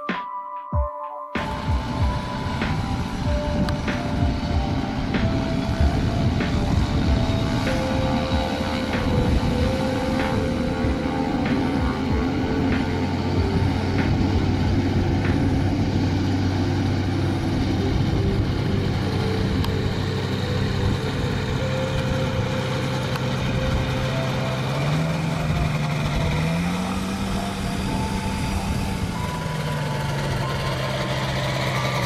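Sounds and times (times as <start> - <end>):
light plane engine and propeller: 1.4 - 32.0.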